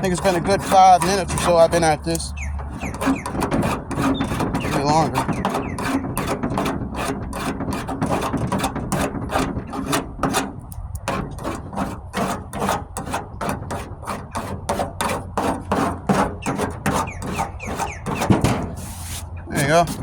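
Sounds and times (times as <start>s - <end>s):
rasp scraping body filler: 0.0s - 20.0s.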